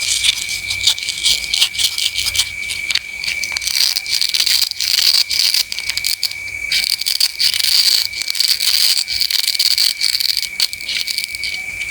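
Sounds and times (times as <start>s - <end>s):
knife cutting crunchy produce: 0.0s - 11.9s
steady high-pitched whine: 0.0s - 11.9s.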